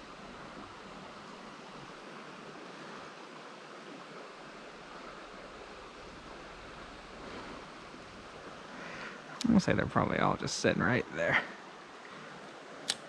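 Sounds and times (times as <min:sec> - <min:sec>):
creek water over rocks: 0:00.0 - 0:13.0.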